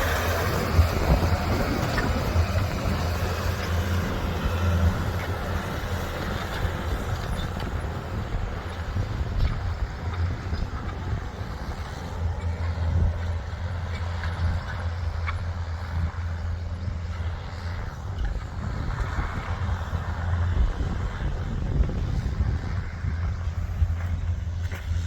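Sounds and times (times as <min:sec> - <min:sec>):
tractor engine droning: 0:00.0 - 0:25.0.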